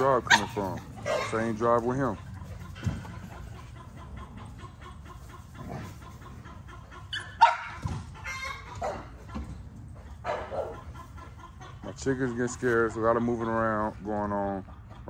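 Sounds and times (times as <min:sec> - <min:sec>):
chickens clucking and squawking: 0:00.0 - 0:15.0.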